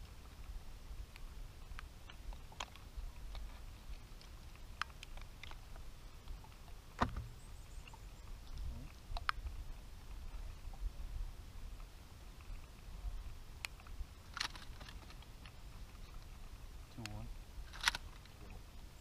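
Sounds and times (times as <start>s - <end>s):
wind and water against hull: 0.0s - 19.0s.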